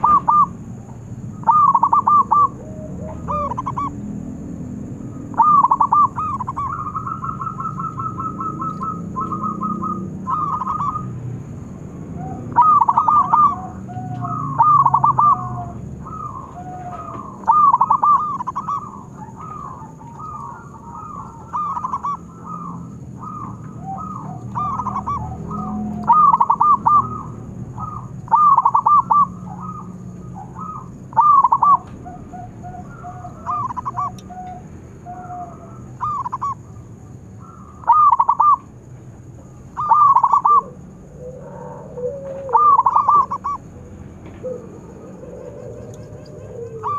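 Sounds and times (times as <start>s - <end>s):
dove cooing: 0.0s - 38.7s, 39.5s - 46.9s
softer lower bird notes: 0.0s - 38.7s.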